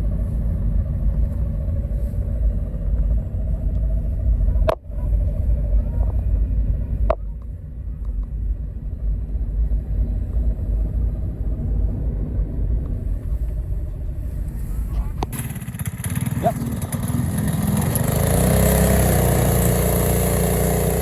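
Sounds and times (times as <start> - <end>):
small engine rumbling: 0.0 - 21.0.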